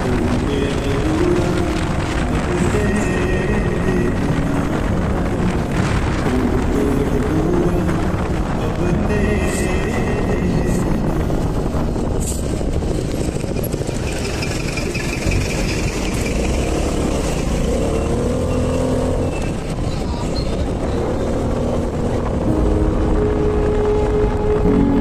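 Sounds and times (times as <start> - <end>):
road noise: 0.0 - 25.0
wind noise: 0.0 - 25.0.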